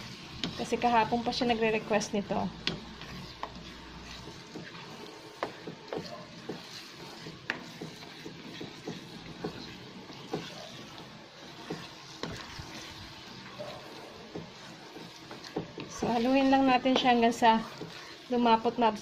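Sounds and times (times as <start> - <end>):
steady sizzle: 0.0 - 19.0
wooden spatula scraping a pan: 0.0 - 19.0.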